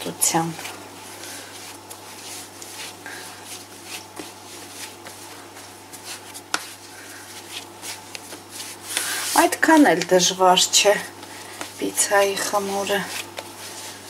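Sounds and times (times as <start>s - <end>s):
hands kneading dough: 0.0s - 14.0s.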